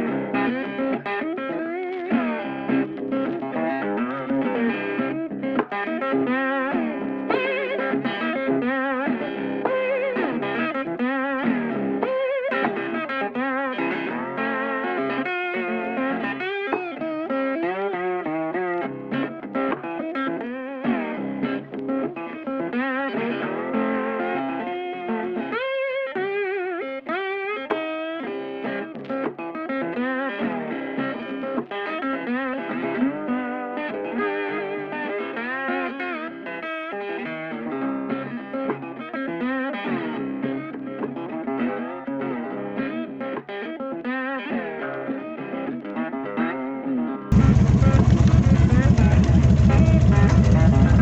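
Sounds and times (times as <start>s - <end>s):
electric guitar music: 0.0s - 51.0s.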